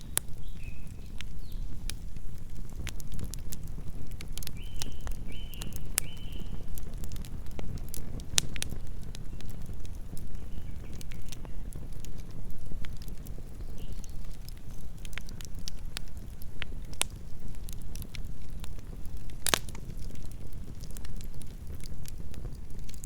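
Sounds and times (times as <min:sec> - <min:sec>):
wood crackling and popping: 0:00.0 - 0:23.0.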